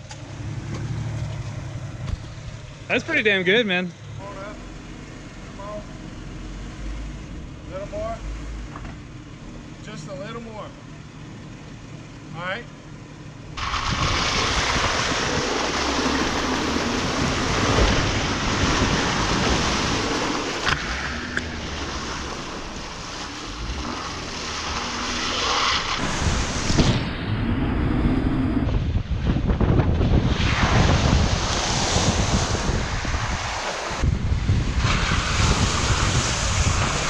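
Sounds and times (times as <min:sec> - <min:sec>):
engine running: 0:00.0 - 0:30.3.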